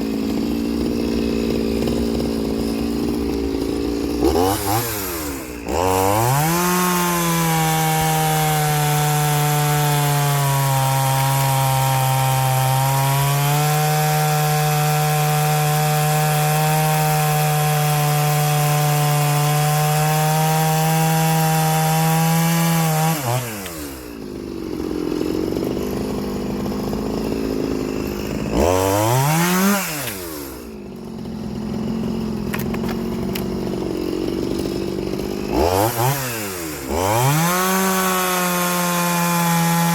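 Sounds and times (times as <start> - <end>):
chainsaw cutting wood: 0.0 - 39.9
chainsaw idling and revving: 0.0 - 39.9.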